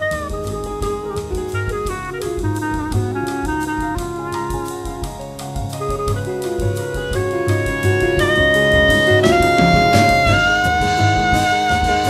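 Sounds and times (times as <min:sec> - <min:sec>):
clarinet melody: 0:00.0 - 0:12.0
cymbal beat on drum kit: 0:00.0 - 0:12.0
double bass: 0:00.0 - 0:12.0
piano: 0:00.0 - 0:12.0.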